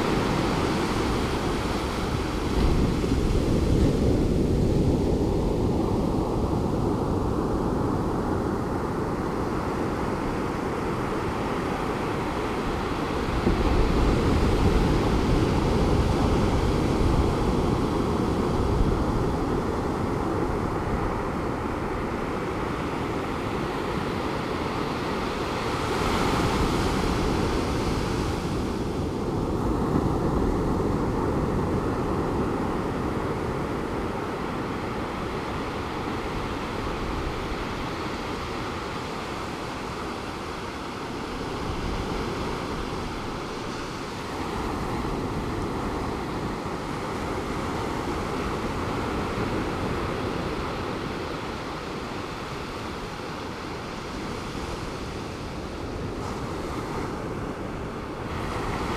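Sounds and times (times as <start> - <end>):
wind on microphone: 0.0 - 58.9.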